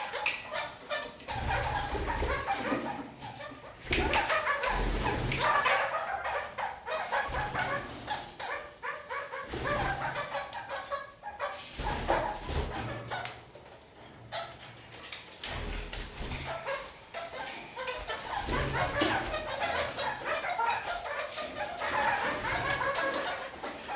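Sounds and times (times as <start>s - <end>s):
parakeets chattering: 0.0s - 23.9s.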